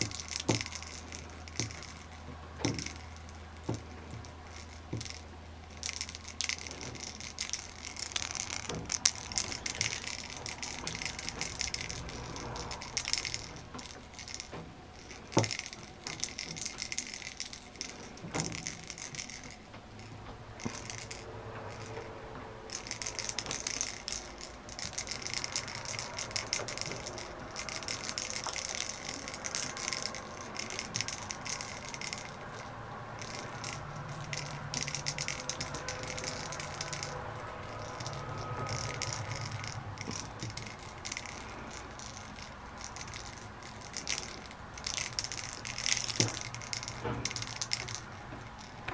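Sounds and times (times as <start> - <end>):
plastic ball toy rattling: 0.0 - 48.9.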